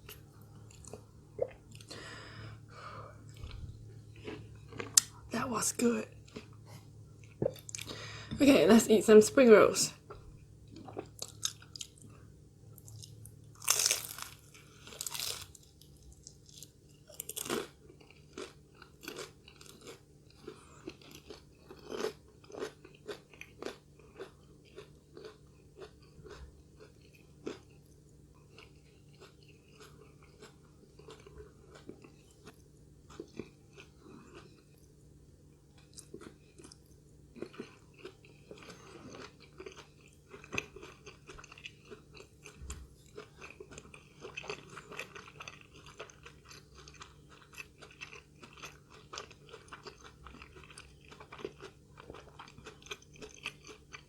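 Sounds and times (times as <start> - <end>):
spring rolls crunching being chewed: 3.1 - 8.3, 10.0 - 54.0.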